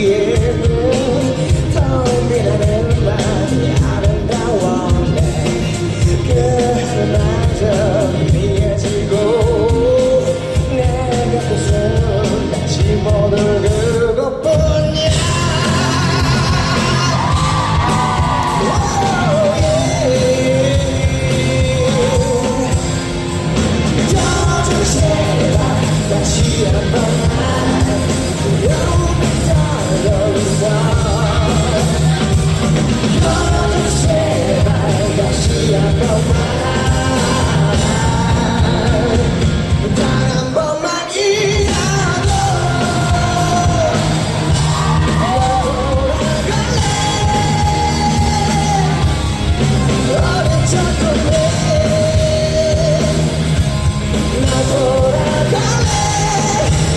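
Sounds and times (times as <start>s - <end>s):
live rock band playing: 0.0s - 56.9s
man singing: 0.0s - 56.9s.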